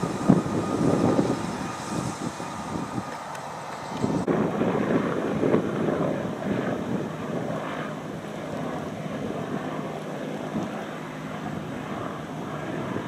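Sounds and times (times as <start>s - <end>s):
helicopter flying past: 0.0s - 13.0s
wind on microphone: 0.0s - 13.0s.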